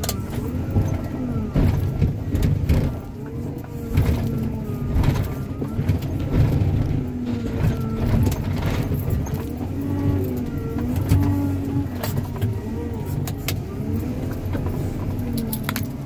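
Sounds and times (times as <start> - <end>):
machine engine and hydraulics: 0.0 - 16.0.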